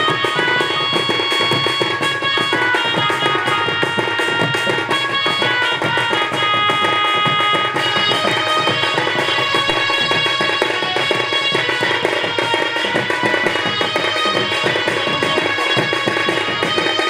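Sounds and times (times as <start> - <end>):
barrel drums beaten fast: 0.0 - 17.0
high held-note melody: 0.0 - 17.0.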